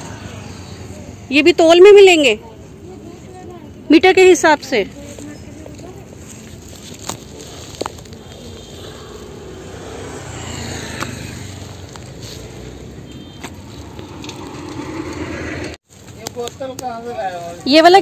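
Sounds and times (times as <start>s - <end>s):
street market rumble and hiss: 0.0s - 18.0s.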